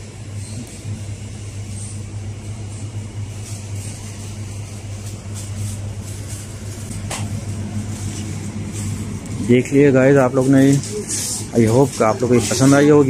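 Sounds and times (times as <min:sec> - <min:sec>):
refrigeration machinery hum: 0:00.0 - 0:13.0.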